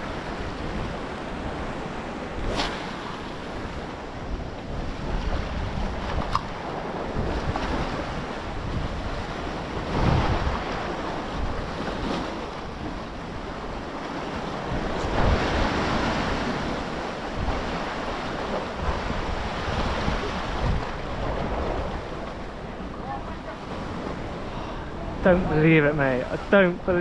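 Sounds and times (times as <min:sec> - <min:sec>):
waves breaking on shore: 0:00.0 - 0:27.0
wind buffeting microphone: 0:00.0 - 0:27.0.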